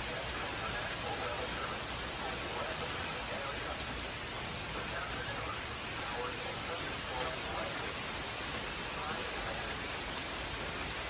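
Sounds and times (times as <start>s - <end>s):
radio static hiss: 0.0s - 10.3s.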